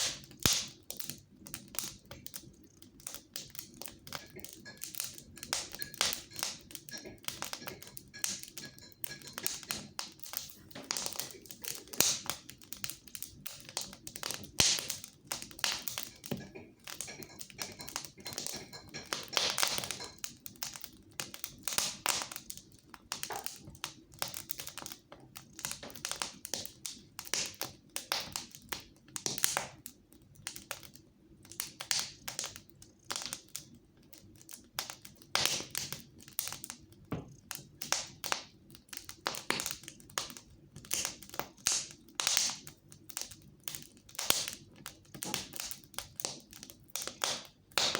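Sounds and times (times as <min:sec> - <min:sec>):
fire crackling in fireplace: 0:00.0 - 0:47.9.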